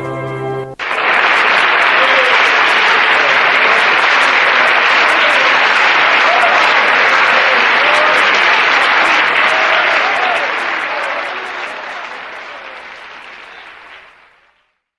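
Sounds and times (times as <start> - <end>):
crowd applauding: 0.8 - 14.9.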